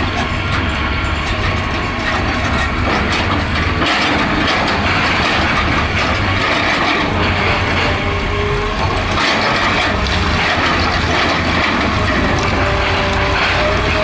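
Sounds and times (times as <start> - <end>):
excavator diesel engine: 0.0 - 14.0
rattling work noise: 0.0 - 14.0.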